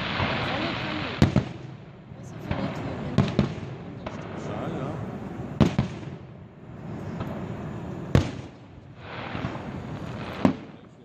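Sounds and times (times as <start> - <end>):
fireworks crackle and rumble: 0.0 - 11.0
fireworks sharp bangs: 0.0 - 11.0.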